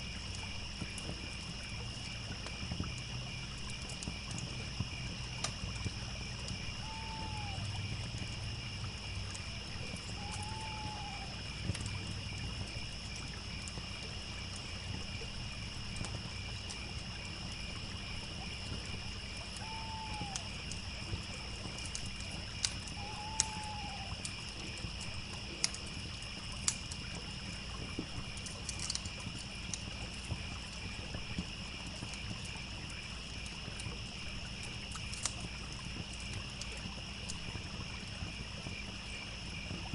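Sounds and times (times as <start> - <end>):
campfire crackling: 0.0 - 39.9
crickets chirping: 0.0 - 39.9
trickling stream: 0.0 - 39.9.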